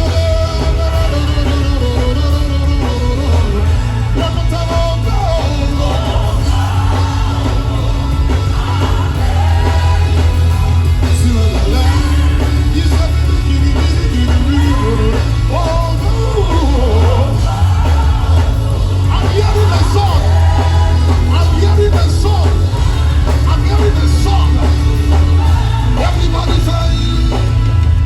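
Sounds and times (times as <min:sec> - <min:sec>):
band playing gospel music: 0:00.0 - 0:28.0.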